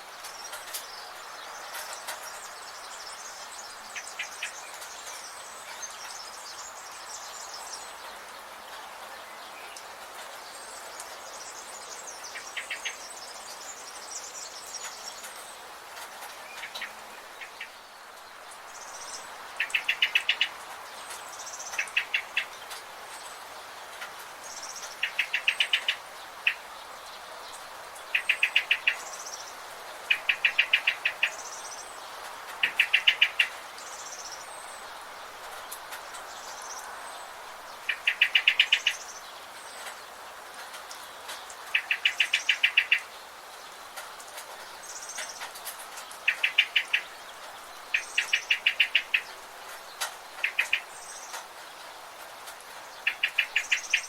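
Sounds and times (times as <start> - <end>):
forest background hiss: 0.0 - 54.0.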